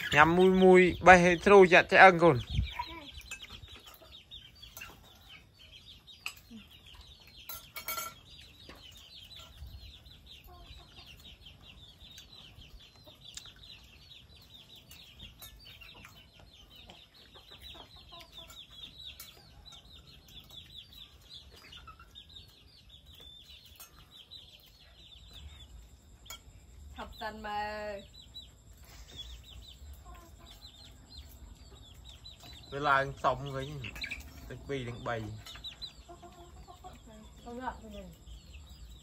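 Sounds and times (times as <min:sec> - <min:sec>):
chickens cheeping: 0:00.0 - 0:39.0.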